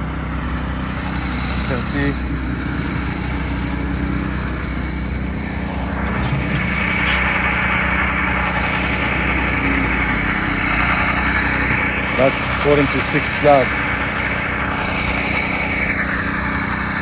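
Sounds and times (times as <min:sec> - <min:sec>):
concrete saw engine running: 0:00.0 - 0:17.0
high hiss: 0:00.5 - 0:17.0.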